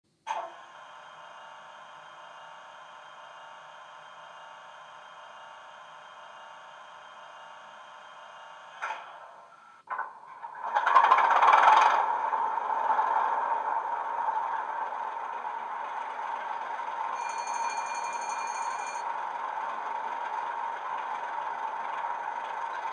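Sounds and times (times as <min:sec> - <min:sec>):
diesel engine starting and idling: 0:00.1 - 0:22.9.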